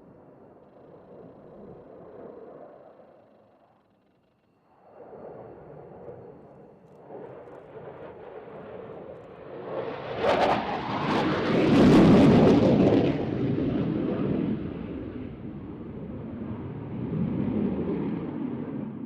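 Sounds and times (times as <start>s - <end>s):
aircraft engine roar: 0.0s - 19.0s.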